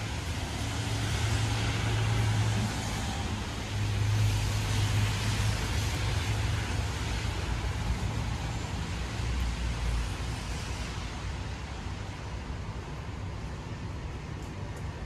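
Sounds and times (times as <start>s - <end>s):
heavy rain on wet paving: 0.0s - 15.0s.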